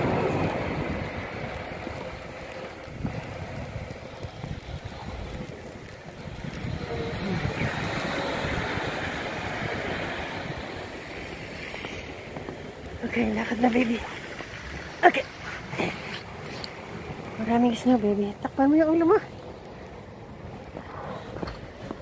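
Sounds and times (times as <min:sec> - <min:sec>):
vehicle passing on snowy street: 0:00.0 - 0:22.0
wind rumble on microphone: 0:00.0 - 0:22.0.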